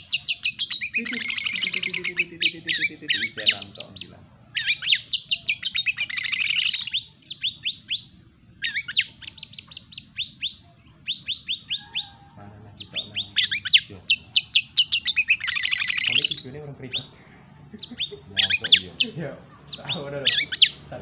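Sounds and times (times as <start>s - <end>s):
songbird whistling and trilling: 0.0s - 20.8s.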